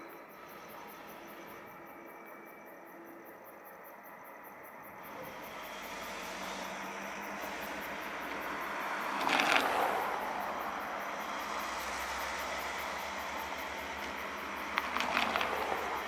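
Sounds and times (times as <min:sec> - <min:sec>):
train approaching: 0:00.0 - 0:16.0.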